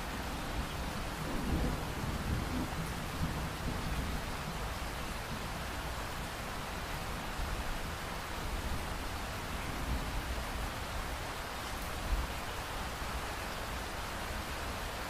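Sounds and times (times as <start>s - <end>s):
rain-like hiss: 0.0s - 15.0s.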